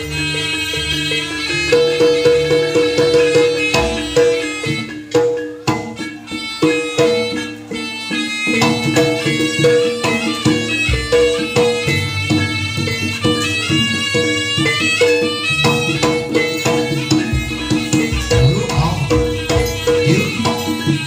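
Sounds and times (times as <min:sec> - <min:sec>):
hand drum strokes: 0:00.0 - 0:21.0
reedy wind instrument: 0:00.0 - 0:21.0
struck percussion: 0:00.0 - 0:21.0.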